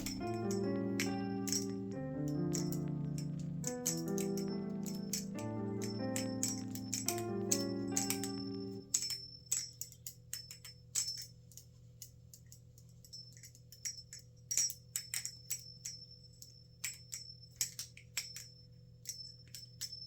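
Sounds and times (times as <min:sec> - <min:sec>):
metallic clicks and clacks: 0:00.0 - 0:20.0.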